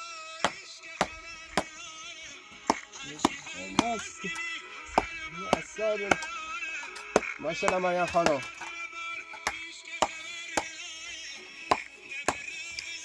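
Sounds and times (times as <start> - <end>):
background music: 0.0 - 13.0
wavering singing voice: 0.0 - 13.0.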